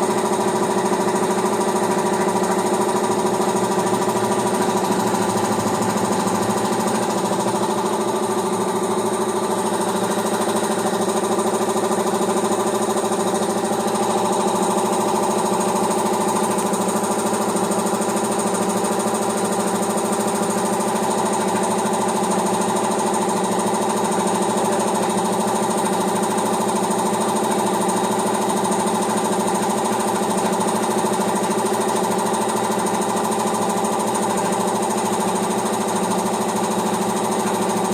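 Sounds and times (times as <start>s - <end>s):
piston air compressor running: 0.0s - 37.9s.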